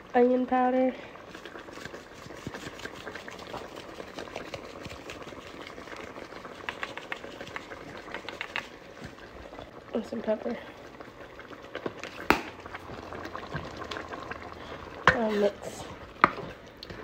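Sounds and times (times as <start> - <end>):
sauce bubbling in a pot: 0.0 - 17.0.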